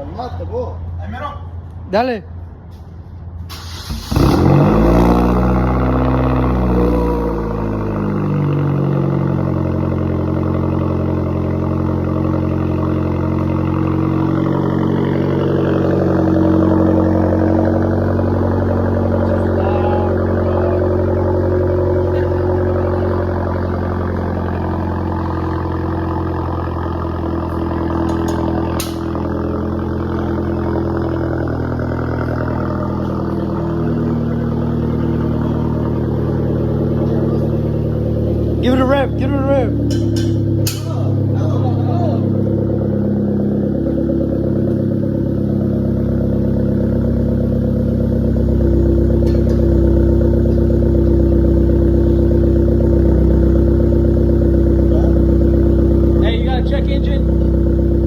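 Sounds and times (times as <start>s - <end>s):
car engine idling loudly: 3.7s - 58.0s.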